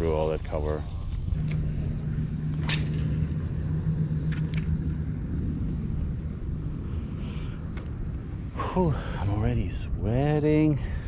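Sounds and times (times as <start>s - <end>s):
low rumble: 0.0s - 11.0s
steady low hum: 0.0s - 11.0s.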